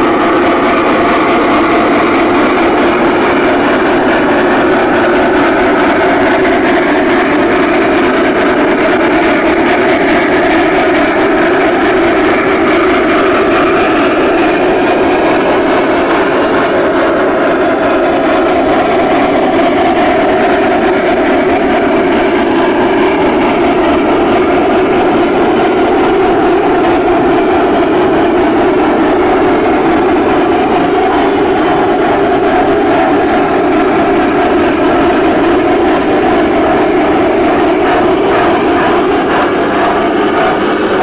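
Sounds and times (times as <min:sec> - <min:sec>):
model train rumbling: 0:00.0 - 0:41.0.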